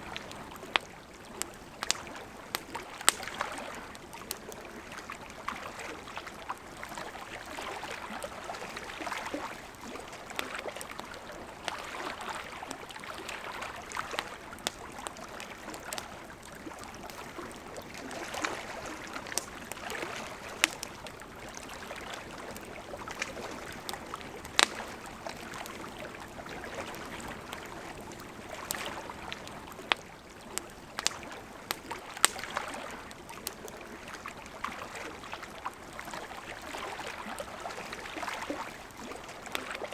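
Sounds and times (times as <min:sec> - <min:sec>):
campfire wood crackling: 0:00.0 - 0:39.9
river flowing: 0:00.0 - 0:39.9.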